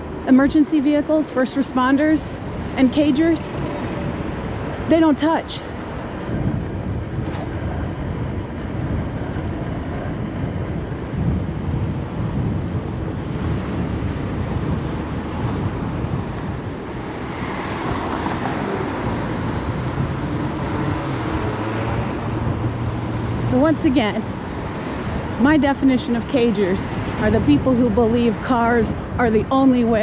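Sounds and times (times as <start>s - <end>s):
road rumble: 0.0s - 30.0s
wind rushing over microphone: 0.0s - 30.0s.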